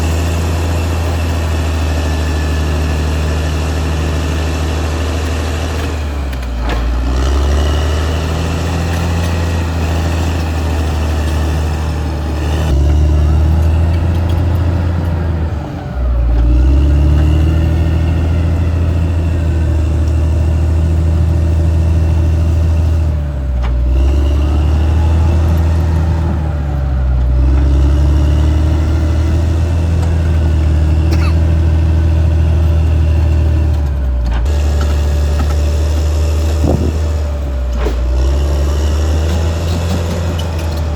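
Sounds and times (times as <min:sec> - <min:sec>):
bulldozer diesel engine: 0:00.0 - 0:40.9.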